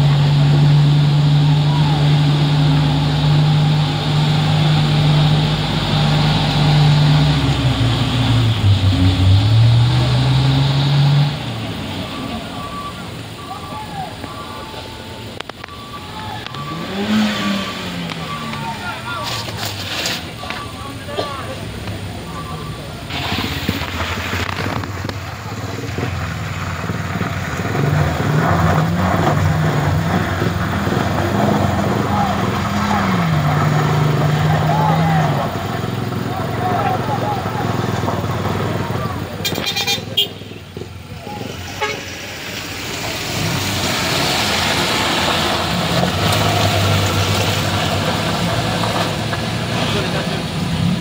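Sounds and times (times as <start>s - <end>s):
vehicle engine revving: 0.0s - 51.0s.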